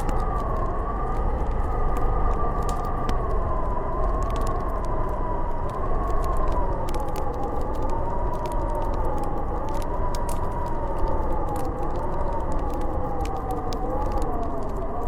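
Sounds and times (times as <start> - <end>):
howling blizzard wind: 0.0 - 15.0
wood fire crackling: 0.0 - 15.0.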